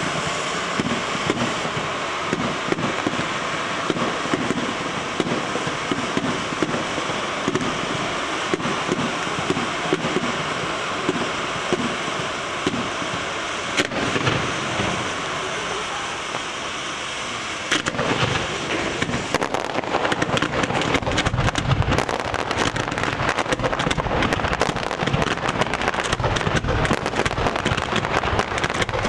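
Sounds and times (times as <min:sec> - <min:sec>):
loud firework bang: 0:00.0 - 0:16.8, 0:17.6 - 0:29.0
fireworks crackling and popping: 0:00.0 - 0:29.0.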